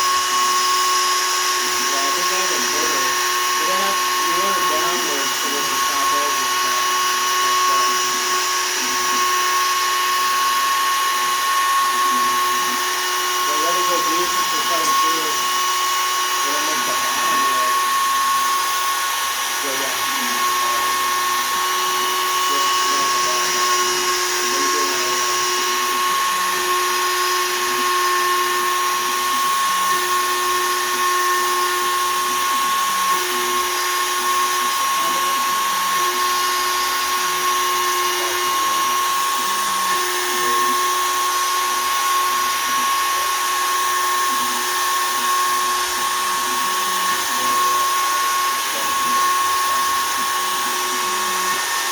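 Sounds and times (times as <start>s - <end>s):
bit cutting wood: 0.0s - 51.9s
router spindle high whine: 0.0s - 51.9s.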